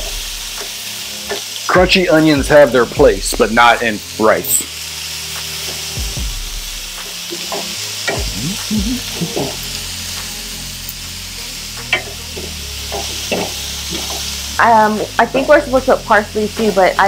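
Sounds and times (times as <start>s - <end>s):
onion sizzling in a skillet: 0.0s - 17.0s.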